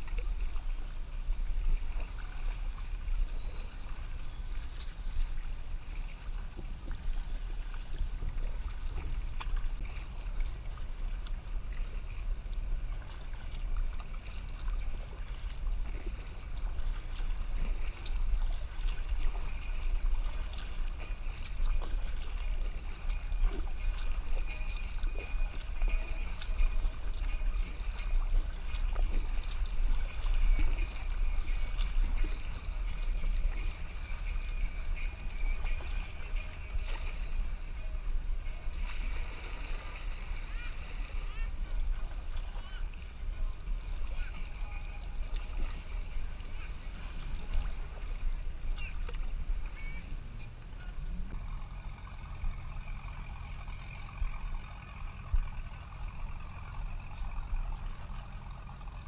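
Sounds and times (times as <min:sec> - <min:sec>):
paddle drips and splashes: 0:00.0 - 0:59.0
water swishing and lapping: 0:00.0 - 0:59.0
wind rumble on microphone: 0:00.0 - 0:59.0.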